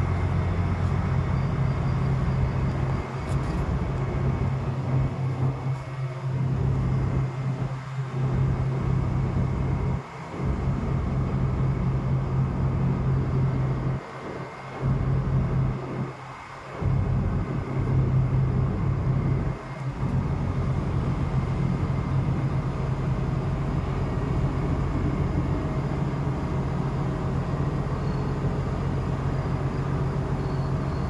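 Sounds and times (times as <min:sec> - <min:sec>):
constant rushing noise: 0:00.0 - 0:31.0
ship machinery humming: 0:00.0 - 0:31.0.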